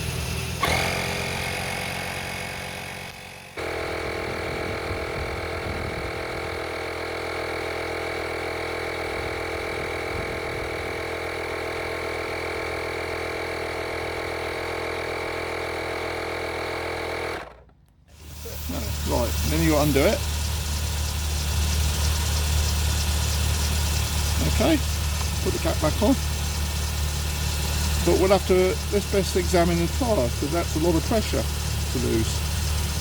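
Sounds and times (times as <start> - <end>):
tyre inflator pumping air: 0.0 - 33.0.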